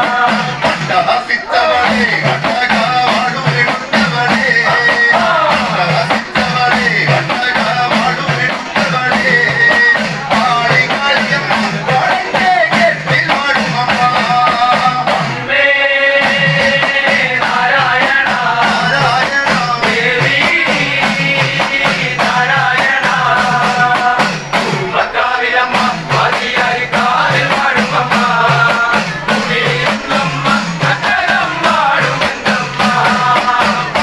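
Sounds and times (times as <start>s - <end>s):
hand-held cymbals beat: 0.0s - 15.5s, 16.1s - 34.0s
men's group singing: 0.0s - 34.0s.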